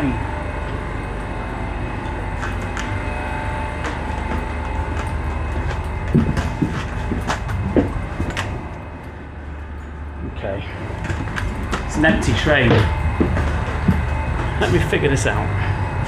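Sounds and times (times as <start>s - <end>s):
train low hum: 0.0s - 16.0s.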